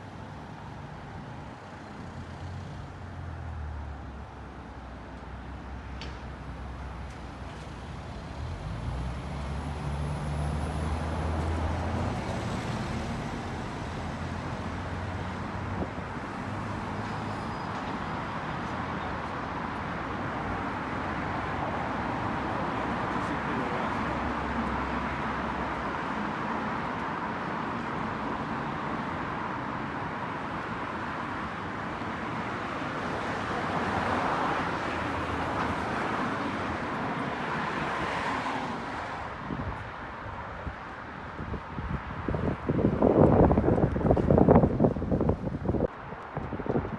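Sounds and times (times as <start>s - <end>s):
tyre and road noise: 0.0s - 46.9s
vehicles passing: 0.0s - 46.9s.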